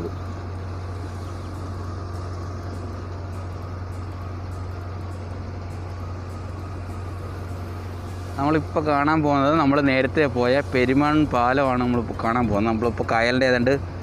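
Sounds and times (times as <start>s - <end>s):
ferry engine drone: 0.0s - 14.0s.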